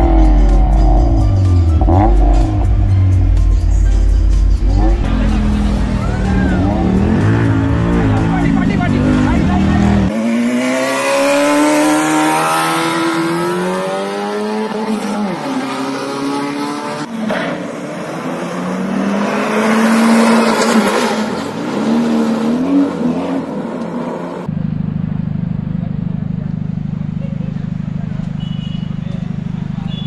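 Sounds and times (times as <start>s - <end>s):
car engine accelerating hard: 0.0s - 3.2s, 4.5s - 28.4s.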